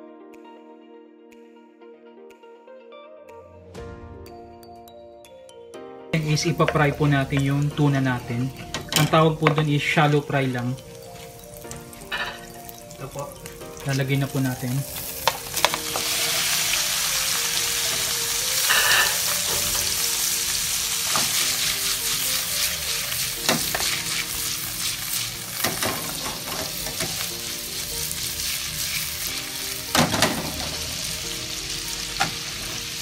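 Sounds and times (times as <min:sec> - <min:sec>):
food sizzling in frying pan: 0:06.2 - 0:33.0.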